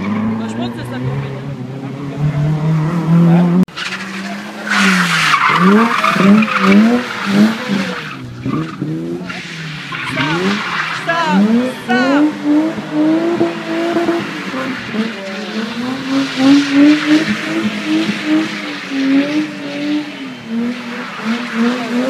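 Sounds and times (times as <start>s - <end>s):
car engine revving hard: 0.0s - 22.0s
tyres skidding: 0.0s - 22.0s.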